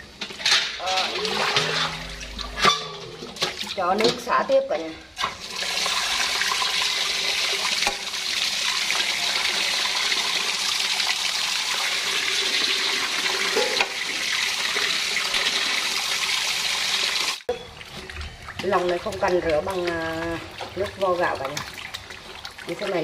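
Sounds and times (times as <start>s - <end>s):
water splashing into steel basin: 0.4s - 23.0s.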